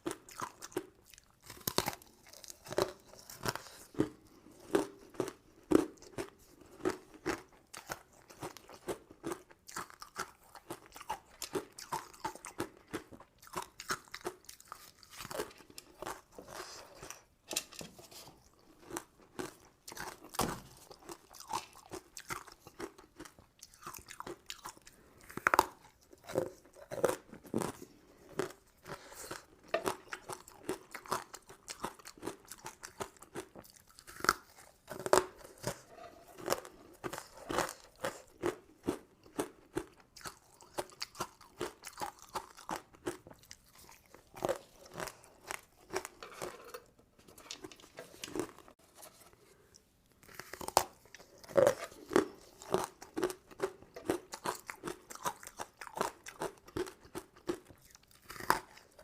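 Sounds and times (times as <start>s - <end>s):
crunching candy: 0.0s - 17.5s, 18.4s - 48.8s, 49.5s - 59.0s.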